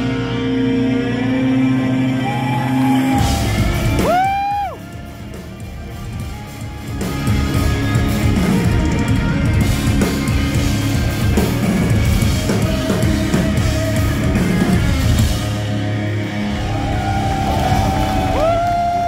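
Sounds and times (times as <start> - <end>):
bass guitar: 0.0 - 19.0
electric guitars: 0.0 - 19.0
drum kit: 2.3 - 19.0.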